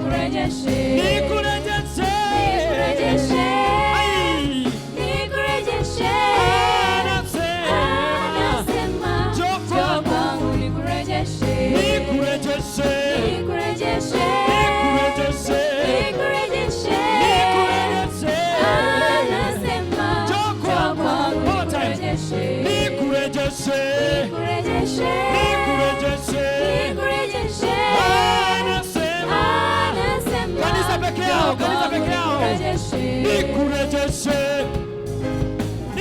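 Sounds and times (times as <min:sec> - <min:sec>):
band accompaniment with bass: 0:00.0 - 0:36.0
choir singing worship song: 0:00.0 - 0:36.0.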